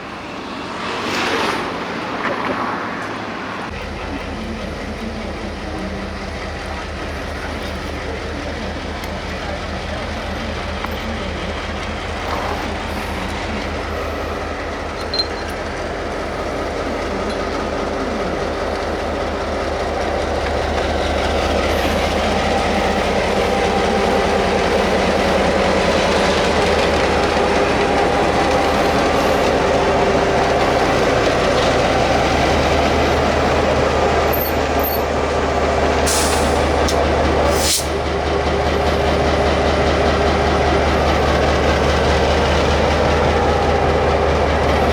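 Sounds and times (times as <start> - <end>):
locomotive moving along track: 0.0 - 44.9.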